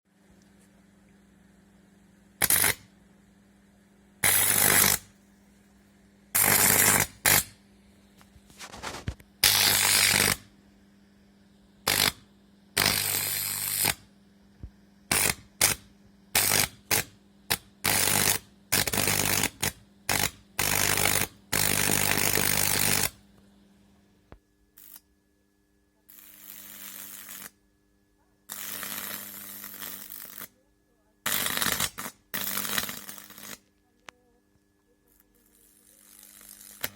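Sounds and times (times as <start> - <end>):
low mains hum: 0.1 - 36.9
harsh electrical arcing buzz: 2.3 - 3.0, 4.2 - 23.4, 24.3 - 25.2, 26.0 - 27.6, 28.4 - 34.1, 35.0 - 36.9.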